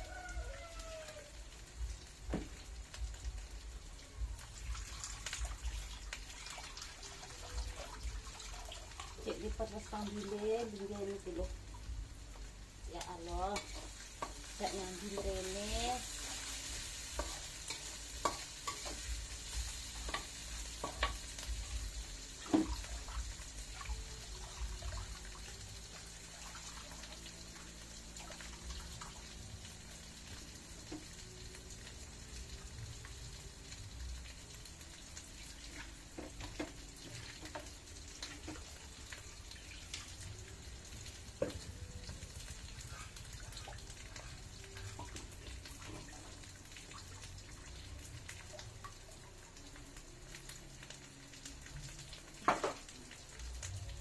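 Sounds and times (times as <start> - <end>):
meat frying in a pan: 0.0 - 54.0.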